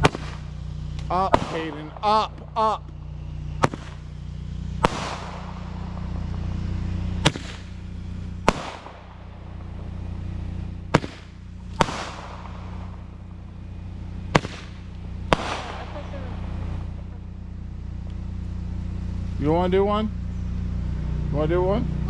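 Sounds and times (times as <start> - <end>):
fireworks popping: 0.0 - 20.9
firework hiss: 0.0 - 21.4
steady low hum: 0.0 - 22.0.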